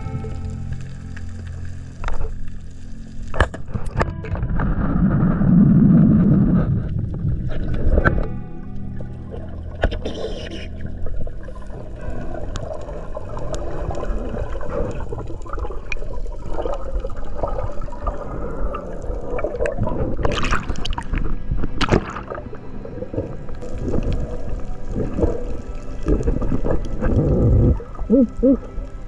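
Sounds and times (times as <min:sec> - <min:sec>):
low rumble: 0:00.0 - 0:29.0
underwater water gurgling: 0:00.0 - 0:29.0.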